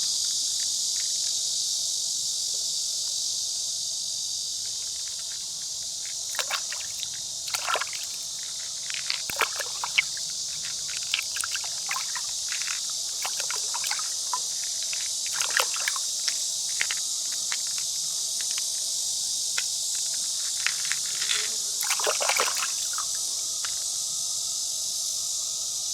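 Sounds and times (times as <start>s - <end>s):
high-pitched insect chorus: 0.0s - 25.9s.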